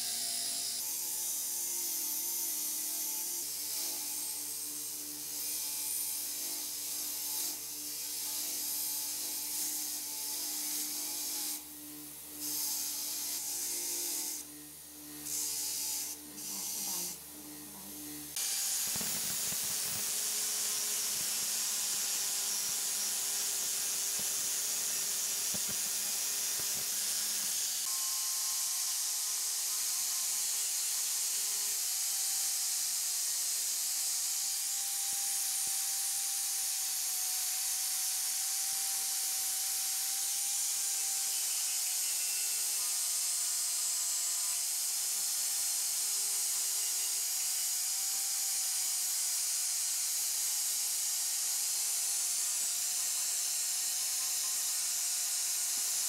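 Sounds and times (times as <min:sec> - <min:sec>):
angle grinder grinding metal: 0:00.0 - 0:56.0
bench grinder motor hum: 0:00.0 - 0:56.0.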